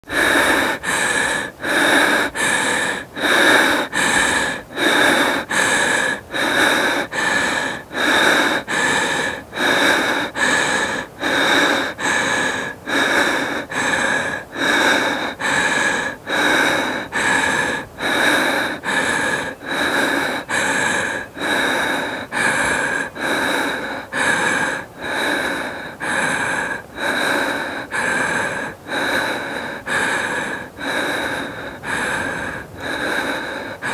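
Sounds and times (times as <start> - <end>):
woman breathing heavily: 0.0 - 33.9.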